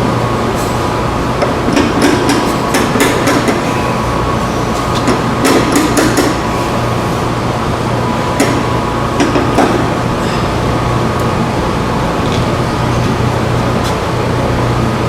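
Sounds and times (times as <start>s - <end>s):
steady shop hum: 0.0s - 15.0s.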